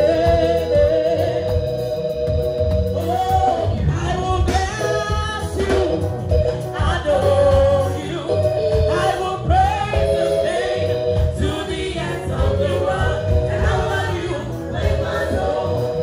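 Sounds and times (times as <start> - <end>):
accompaniment with steady beat: 0.0 - 16.0
backing vocalists: 0.0 - 16.0.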